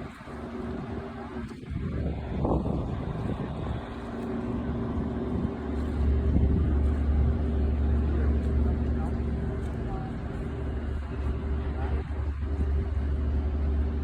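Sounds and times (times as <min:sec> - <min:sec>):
ferry engines rumbling: 0:00.0 - 0:14.0.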